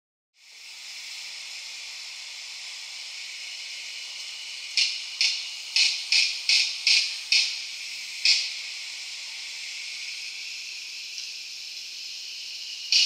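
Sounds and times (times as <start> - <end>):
loud hiss bursts: 0.4 - 13.0
steady high hiss: 0.4 - 13.0.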